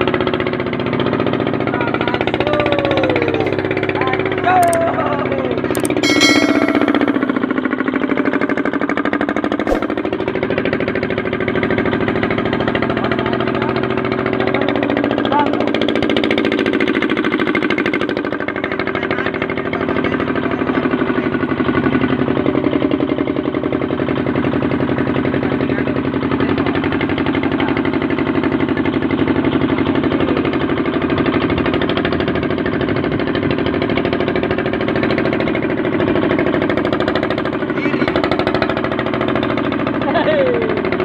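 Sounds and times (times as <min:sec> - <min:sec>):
engine running with knocking: 0:00.0 - 0:41.0.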